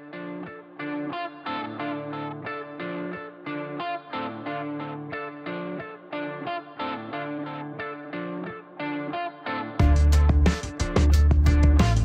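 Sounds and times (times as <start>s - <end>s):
guitar plucking background music: 0.0s - 12.0s.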